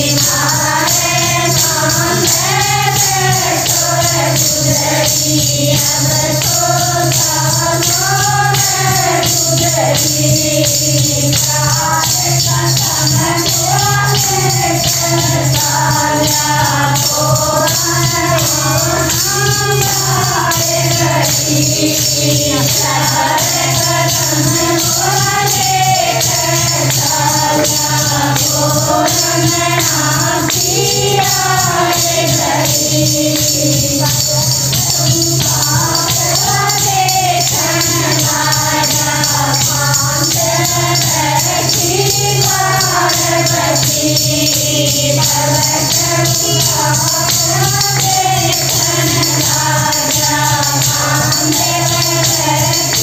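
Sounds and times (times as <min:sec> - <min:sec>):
jingling hand percussion: 0:00.0 - 0:53.0
women singing together: 0:00.0 - 0:53.0.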